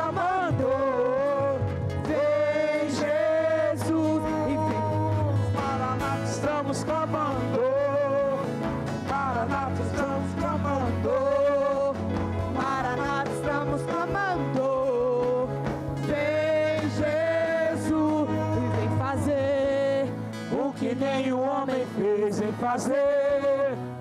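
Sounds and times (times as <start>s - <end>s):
sung melody: 0.0s - 24.0s
worship band playing: 0.0s - 24.0s.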